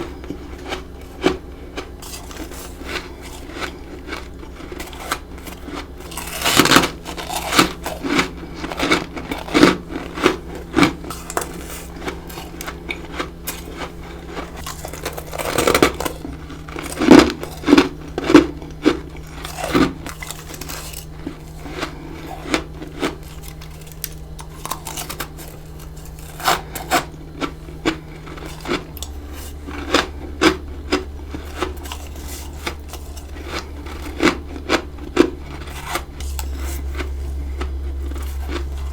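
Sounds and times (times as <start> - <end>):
faint low hum: 0.0 - 38.9
crunching bites of frost: 0.1 - 38.9.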